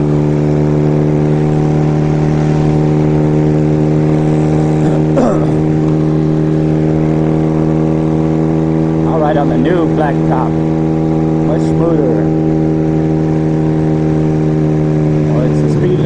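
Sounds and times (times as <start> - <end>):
motorcycle engine cruising: 0.0 - 16.0
wind and road rumble: 0.0 - 16.0.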